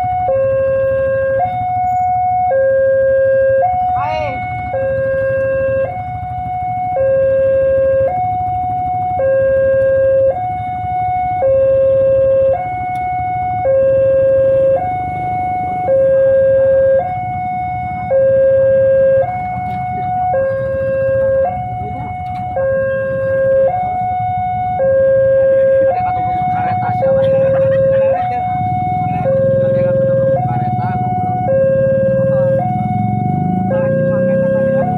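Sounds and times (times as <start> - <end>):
level crossing two-tone alarm: 0.0 - 34.9.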